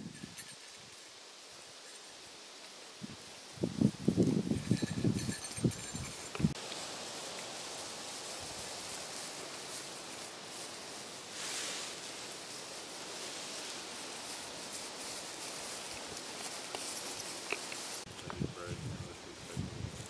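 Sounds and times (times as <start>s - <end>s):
tall grass rustling: 0.0s - 20.0s.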